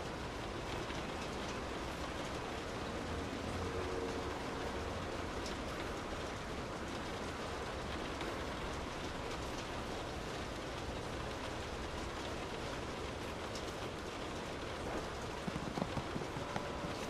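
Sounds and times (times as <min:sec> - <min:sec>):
rain hissing: 0:00.0 - 0:17.0
raindrops ticking: 0:00.0 - 0:17.0.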